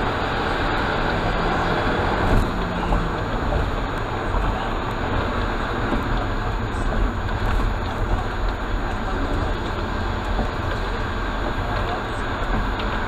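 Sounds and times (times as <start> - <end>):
road and engine noise in car: 0.0 - 13.0.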